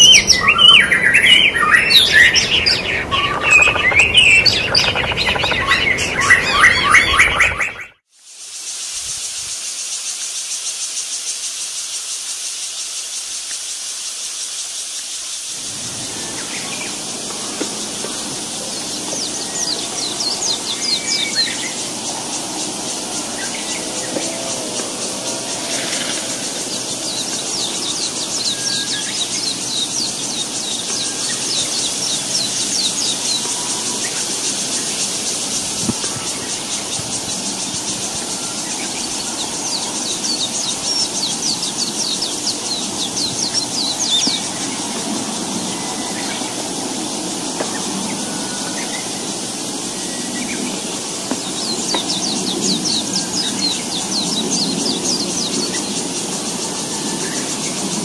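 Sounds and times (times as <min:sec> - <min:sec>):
nestlings begging chirps: 0:00.0 - 0:07.9, 0:10.0 - 0:58.0
steady background hiss: 0:08.1 - 0:58.0.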